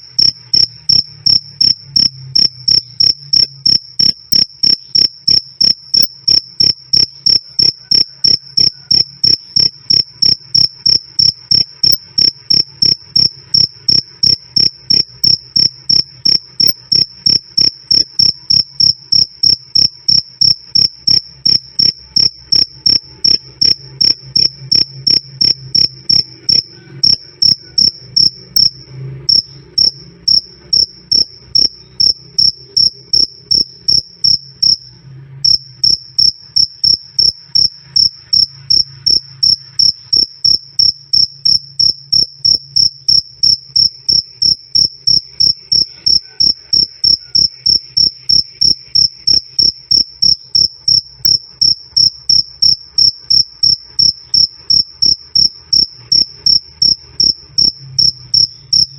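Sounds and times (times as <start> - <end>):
cricket chirping: 0.0 - 58.9.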